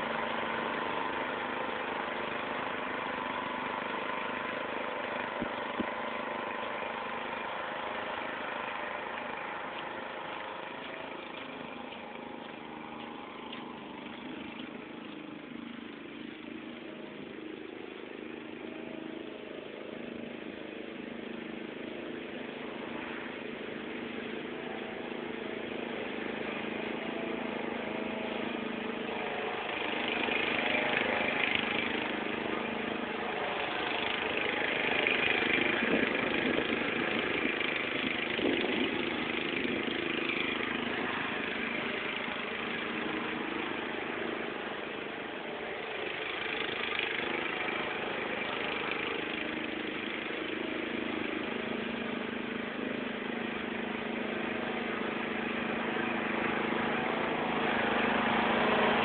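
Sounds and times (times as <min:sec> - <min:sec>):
riding mower engine running: 0:00.0 - 0:59.0.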